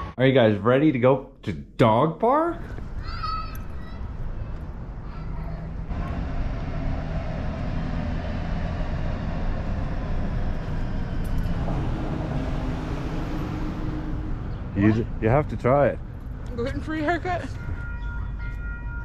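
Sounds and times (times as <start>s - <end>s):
train rumble with faint whine: 3.2s - 19.0s.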